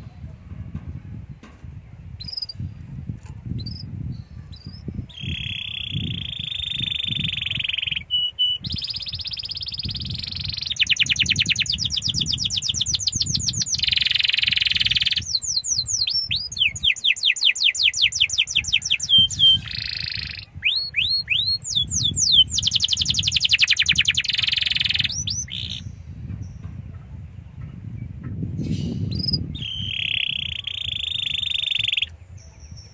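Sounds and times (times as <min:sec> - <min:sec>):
canary singing trills: 0:02.2 - 0:02.7, 0:03.5 - 0:26.7, 0:28.6 - 0:32.9.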